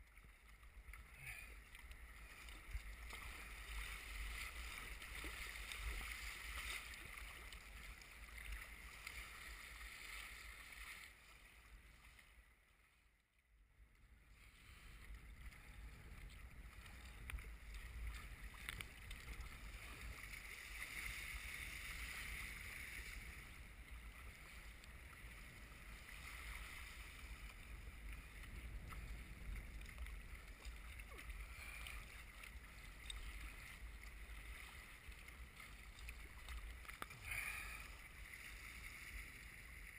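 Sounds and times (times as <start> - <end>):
water splashing along kayak hull: 0.0 - 13.1, 13.8 - 39.9.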